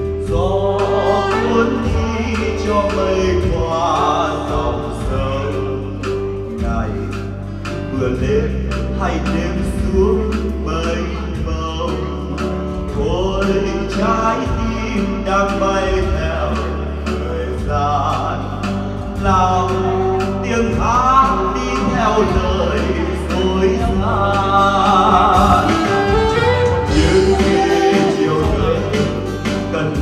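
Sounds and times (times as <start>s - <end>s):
live band with acoustic guitar: 0.0s - 30.0s
man singing into a microphone: 0.0s - 30.0s.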